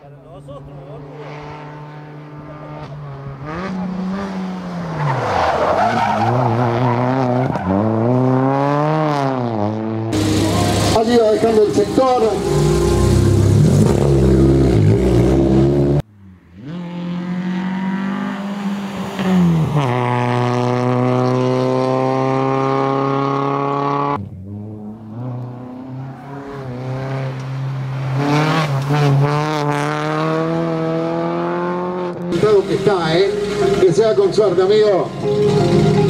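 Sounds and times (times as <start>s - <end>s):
rally car engine revving: 0.6s - 16.0s, 16.6s - 36.0s.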